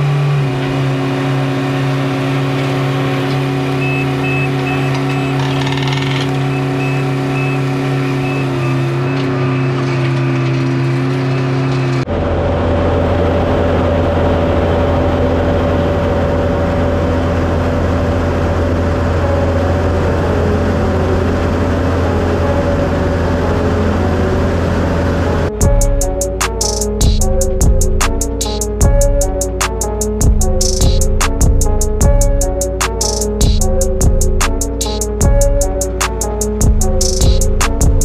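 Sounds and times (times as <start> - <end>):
low machine engine hum: 0.0 - 38.0
paving machinery engines running: 0.0 - 38.0.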